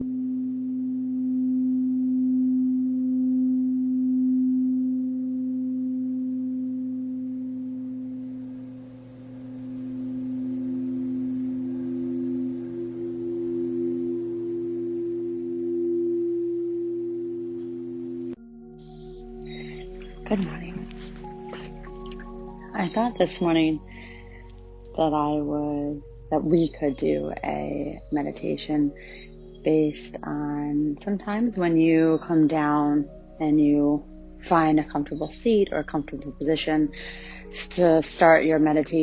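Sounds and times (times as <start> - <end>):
higher-pitched bowl tone: 0.0 - 39.0
singing bowls humming: 0.0 - 39.0.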